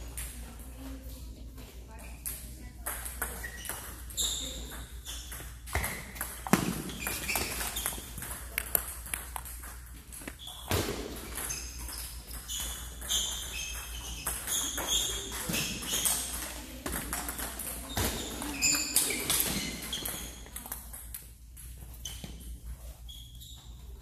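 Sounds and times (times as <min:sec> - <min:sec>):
table tennis balls clicking: 0:02.1 - 0:22.5.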